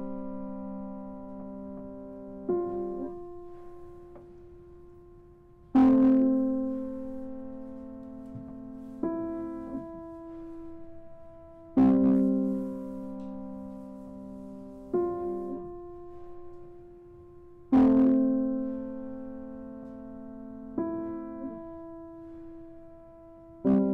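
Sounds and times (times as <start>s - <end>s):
grand piano chords: 0.0s - 23.9s.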